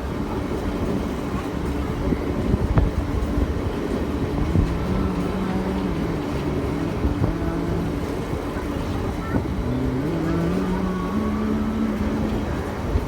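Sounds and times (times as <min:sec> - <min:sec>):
train carriage rumble: 0:00.0 - 0:13.0
wheels knocking and clattering: 0:00.0 - 0:13.0.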